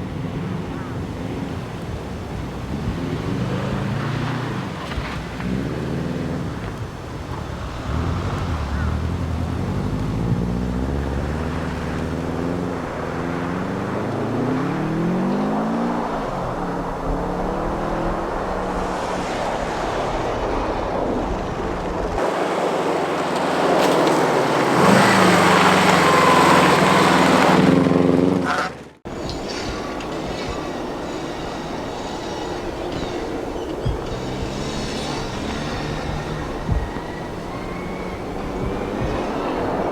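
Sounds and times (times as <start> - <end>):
rally car engine revving: 2.6 - 19.3, 21.8 - 31.7, 32.6 - 39.9.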